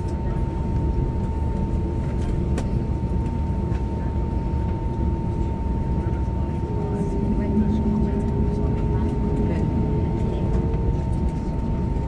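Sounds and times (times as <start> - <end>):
aircraft cabin hum: 0.0 - 12.0.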